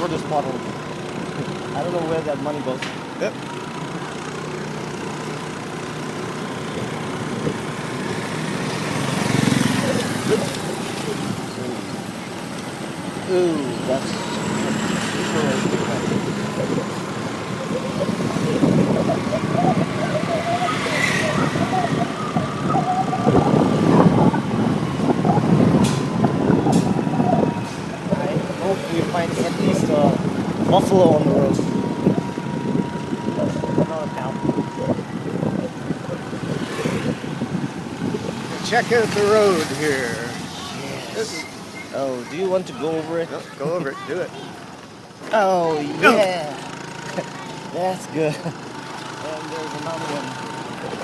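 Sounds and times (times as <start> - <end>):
motorcycle engine running: 0.0 - 40.8, 46.1 - 51.0.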